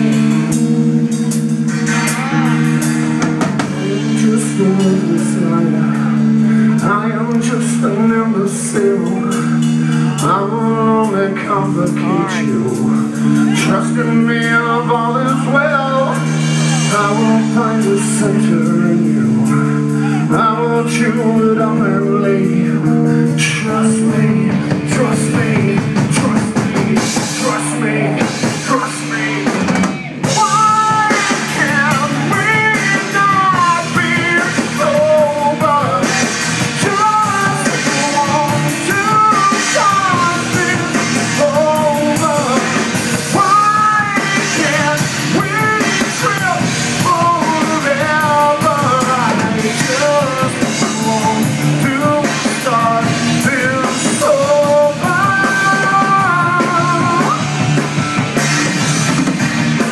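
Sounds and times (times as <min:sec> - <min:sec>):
person singing: 0:00.0 - 0:59.9
rock band playing: 0:00.0 - 0:59.9.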